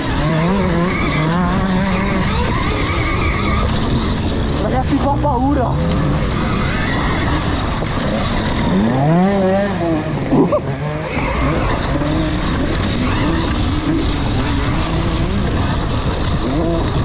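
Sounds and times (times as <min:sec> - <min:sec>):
dirt bike engine revving: 0:00.0 - 0:17.0
tyres scrabbling on loose dirt: 0:00.0 - 0:17.0.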